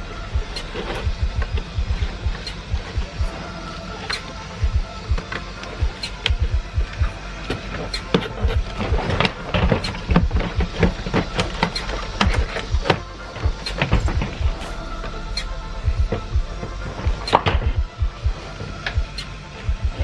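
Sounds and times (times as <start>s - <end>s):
background music with low beat: 0.0s - 20.0s.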